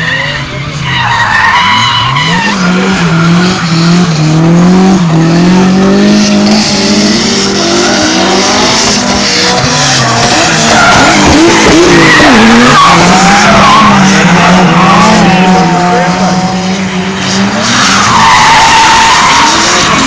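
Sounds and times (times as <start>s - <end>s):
tyres squealing and skidding: 0.0s - 5.2s, 6.0s - 20.0s
car engine revving: 0.0s - 20.0s.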